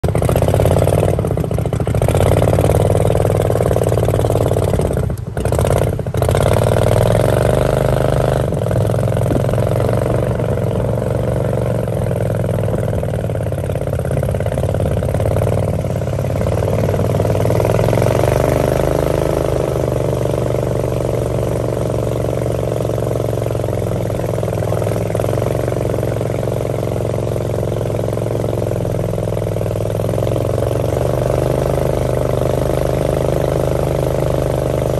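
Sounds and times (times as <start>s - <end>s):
boat engine running: 0.0s - 34.9s.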